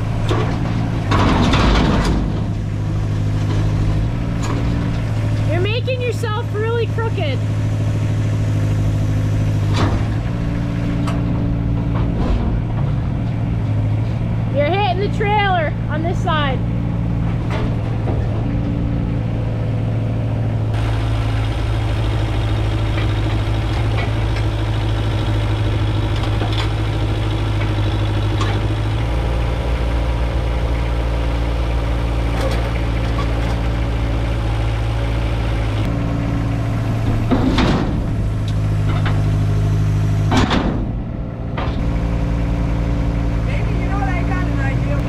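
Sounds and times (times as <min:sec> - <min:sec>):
excavator engine running: 0:00.0 - 0:45.0.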